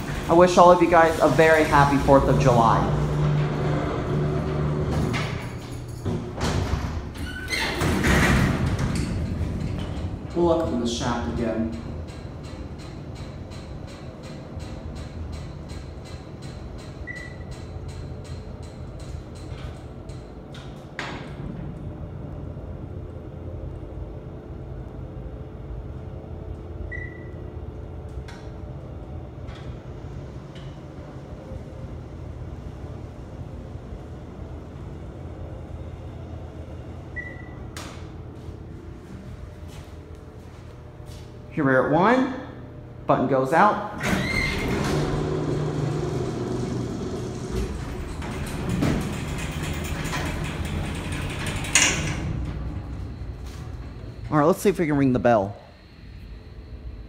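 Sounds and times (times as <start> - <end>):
elevator car rumbling: 0.0 - 41.1, 43.9 - 57.0.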